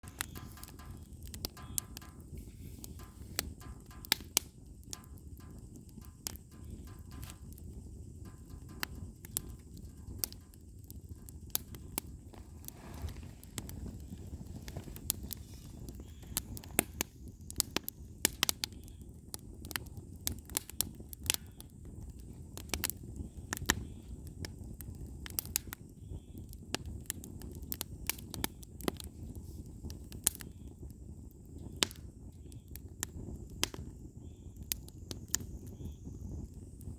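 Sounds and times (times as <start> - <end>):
firewood popping and crackling: 0.0 - 36.9
low steady fire rumble: 0.0 - 36.9.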